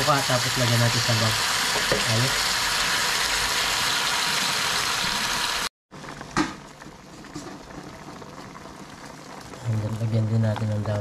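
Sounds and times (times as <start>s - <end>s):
food sizzling over high heat: 0.0s - 11.0s.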